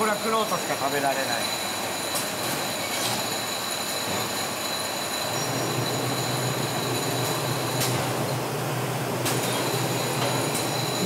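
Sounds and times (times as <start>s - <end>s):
factory machinery running: 0.0s - 11.0s.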